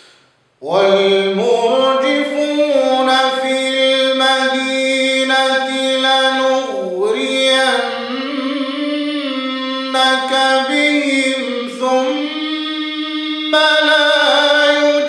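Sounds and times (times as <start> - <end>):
man reciting melodically: 0.6 - 15.0.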